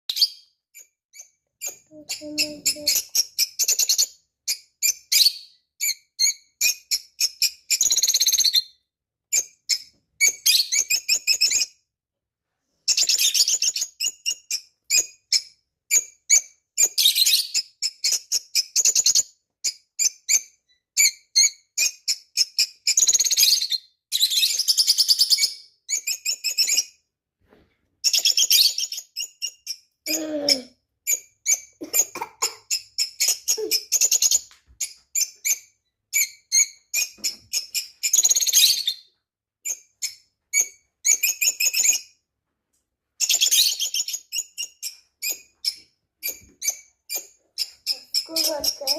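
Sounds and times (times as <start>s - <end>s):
parrot chirping and chattering: 0.1s - 11.8s, 12.9s - 26.9s, 28.0s - 42.1s, 43.2s - 48.9s.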